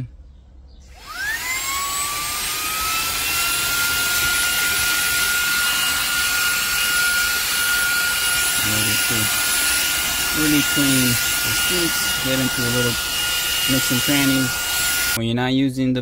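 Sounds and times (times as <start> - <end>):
handheld vacuum motor whine: 0.9 - 15.2.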